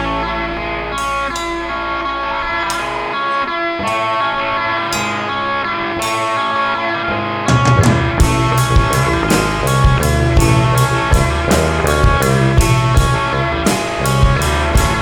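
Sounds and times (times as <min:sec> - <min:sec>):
drums: 0:00.0 - 0:06.9, 0:07.5 - 0:15.0
ringing guitar chords: 0:00.0 - 0:15.0
rock band playing: 0:00.0 - 0:15.0.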